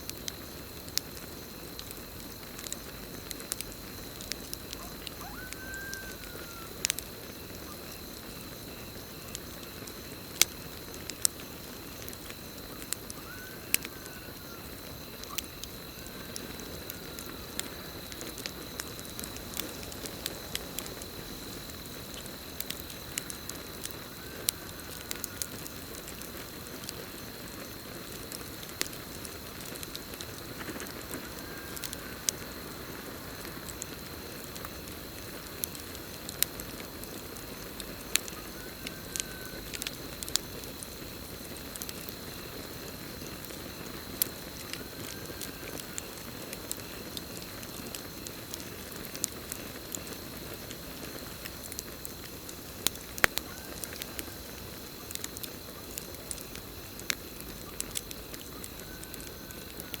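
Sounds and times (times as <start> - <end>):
campfire crackling and popping: 0.0 - 60.0
crickets trilling: 0.0 - 60.0.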